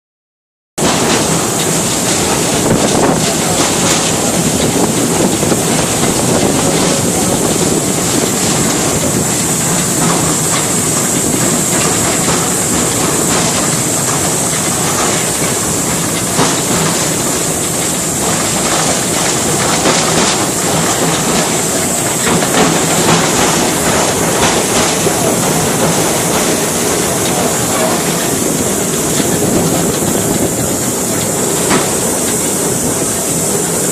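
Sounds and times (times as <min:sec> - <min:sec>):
constant high hiss: 0:00.8 - 0:33.9
train running on track: 0:00.8 - 0:33.9
wheels clicking over rails: 0:00.8 - 0:33.9.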